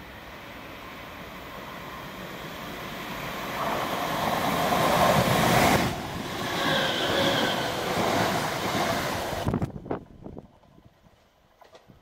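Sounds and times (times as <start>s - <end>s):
train wheel and air rush: 0.0s - 12.0s.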